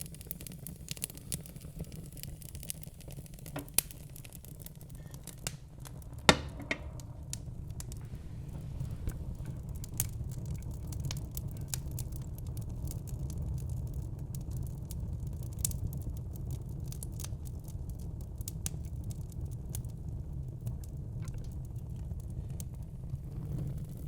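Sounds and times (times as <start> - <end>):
fire crackling and popping: 0.0 - 24.0
fireplace flames rumbling: 0.0 - 24.0.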